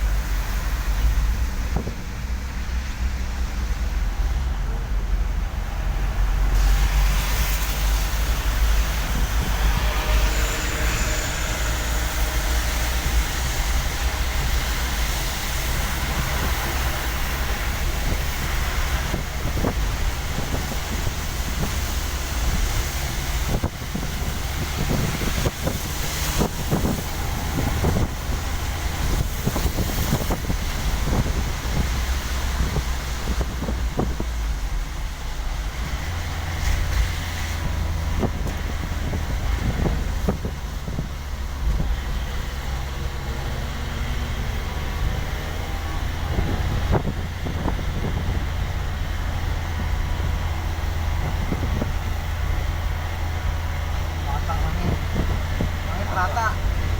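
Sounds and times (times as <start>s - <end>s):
vehicle driving on wet road: 0.0s - 56.9s.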